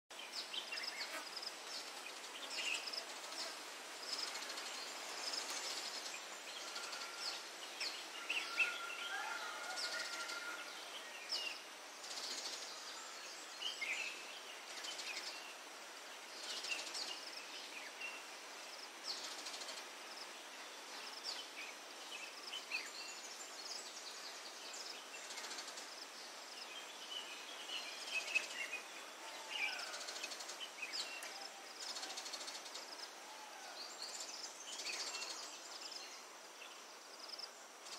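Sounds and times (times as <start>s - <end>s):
steady background hiss: 0.1s - 37.9s.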